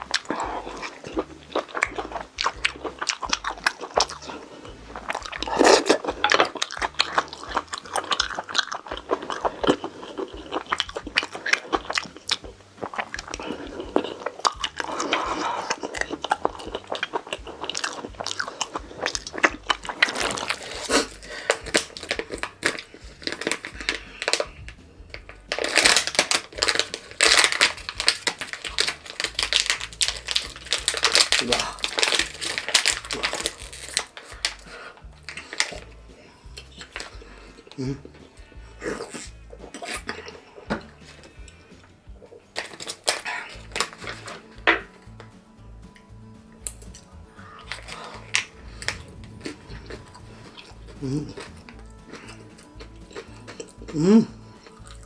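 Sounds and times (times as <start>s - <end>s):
wet mouth clicks: 0.0s - 42.0s, 42.6s - 55.0s
person biting and chewing food: 0.0s - 45.3s, 45.9s - 55.0s.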